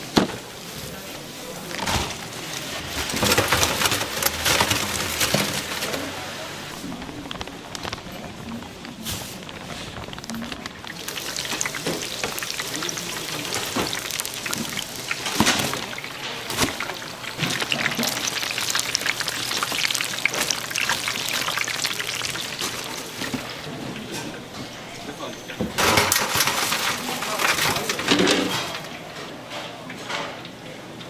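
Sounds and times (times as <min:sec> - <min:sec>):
food frying in hot oil: 0:00.0 - 0:23.7, 0:25.8 - 0:28.8.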